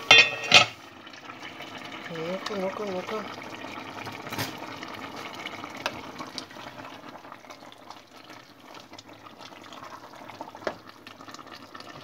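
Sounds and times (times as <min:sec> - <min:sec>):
stew simmering and bubbling: 0:00.0 - 0:12.0.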